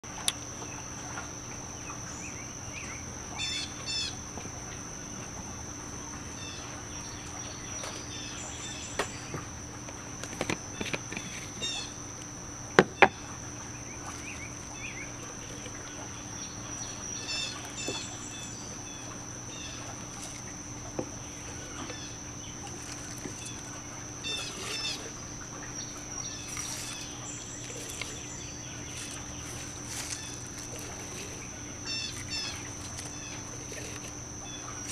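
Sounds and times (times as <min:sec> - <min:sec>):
steady high-pitched whine: 0:00.0 - 0:34.9
birds chirping: 0:06.0 - 0:34.9.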